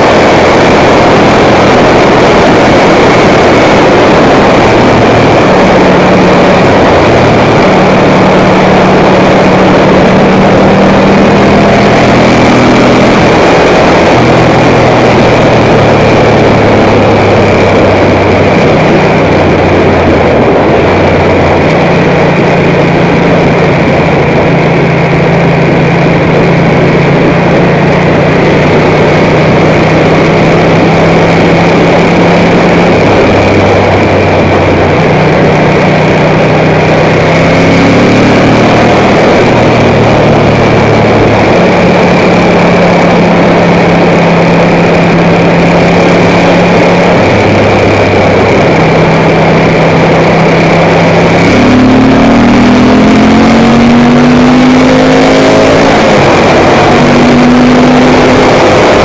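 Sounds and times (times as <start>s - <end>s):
motorcycle engine revving: 0.0s - 59.0s
wind noise on microphone: 0.0s - 59.0s.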